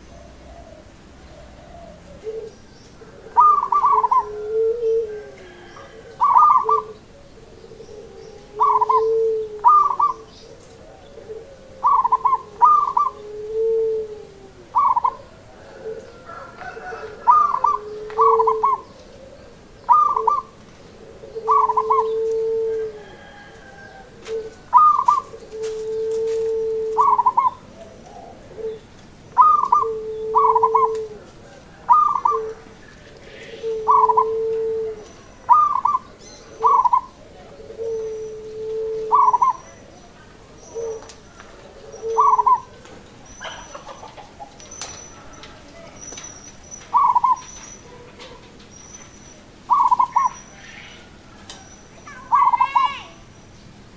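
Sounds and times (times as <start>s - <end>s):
dove cooing: 0.0s - 53.3s.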